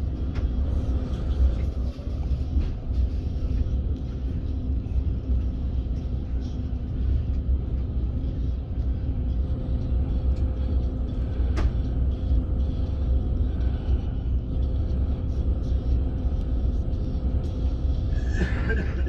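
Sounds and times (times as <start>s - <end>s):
faint steady hum: 0.0s - 19.0s
steady low rumble: 0.0s - 19.0s.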